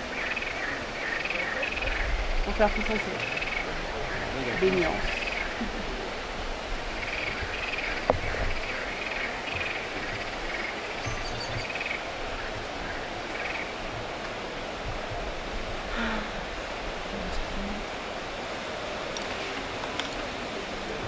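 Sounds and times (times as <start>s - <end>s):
outdoor background rush: 0.0s - 21.0s.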